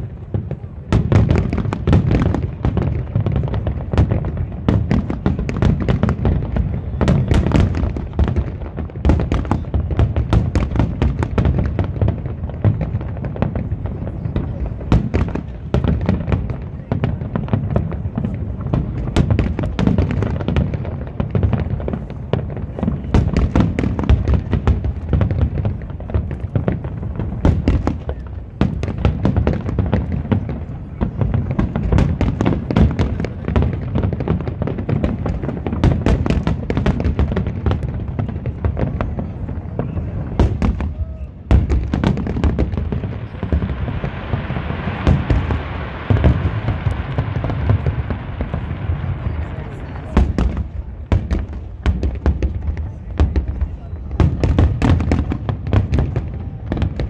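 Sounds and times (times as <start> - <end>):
fireworks bursting with bangs: 0.0 - 57.0
hissing crackle: 1.1 - 53.8.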